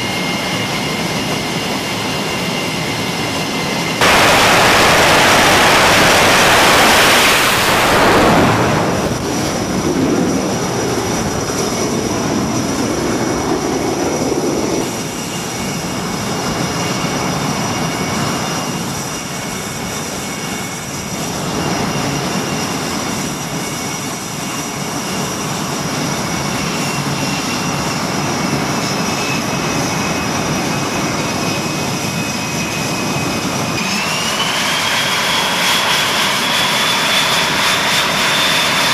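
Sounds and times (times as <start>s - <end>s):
jet engine roar: 0.0s - 38.9s
jet engines rumbling and whining: 0.0s - 38.9s.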